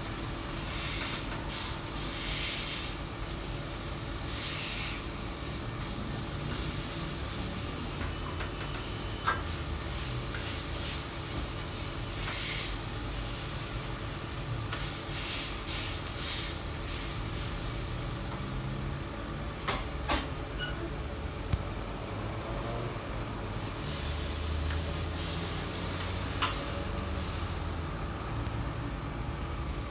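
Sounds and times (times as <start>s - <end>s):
chicken sizzling on griddle: 0.0s - 20.0s, 22.0s - 29.9s.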